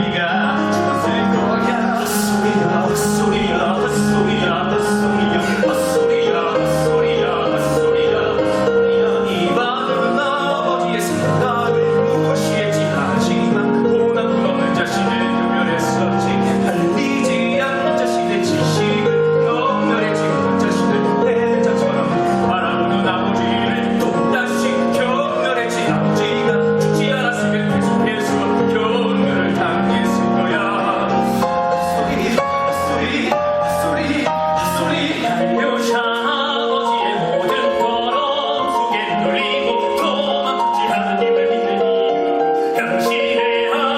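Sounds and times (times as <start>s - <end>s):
piano and band accompaniment: 0.0s - 43.9s.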